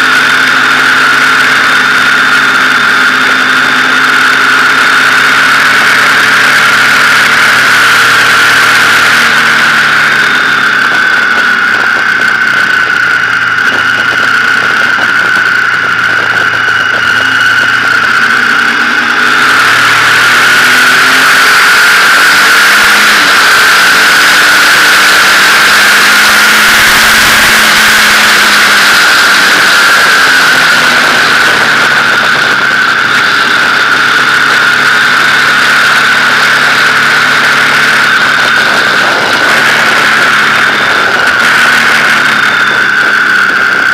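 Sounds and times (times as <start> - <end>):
high whistle and wind rush: 0.0 - 43.9
motorcycle engine running: 0.0 - 43.9.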